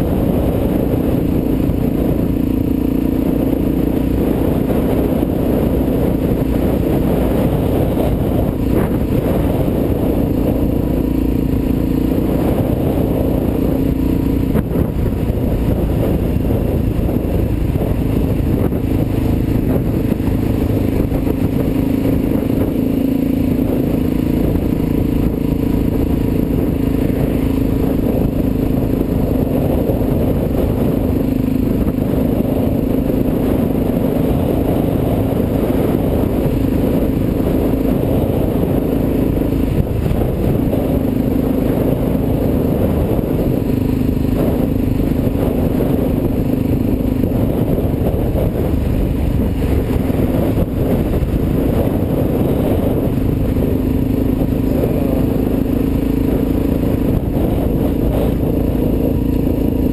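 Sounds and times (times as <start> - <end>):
motorcycle engine cruising: 0.0 - 59.9
wind on microphone: 0.0 - 59.9.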